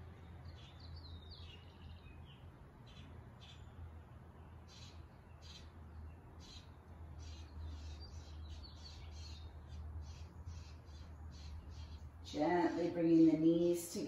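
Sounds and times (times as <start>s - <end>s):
faint bird chirping: 0.0s - 14.0s
steady low hum: 0.0s - 14.0s.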